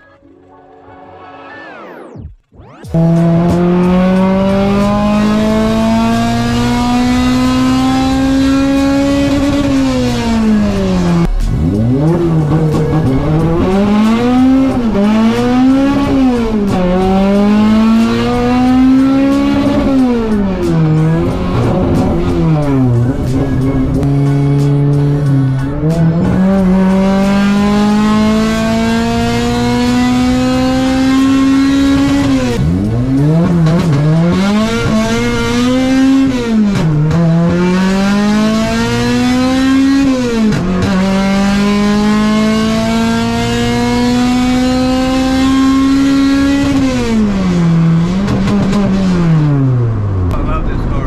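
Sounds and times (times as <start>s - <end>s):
car engine accelerating: 0.0s - 51.0s.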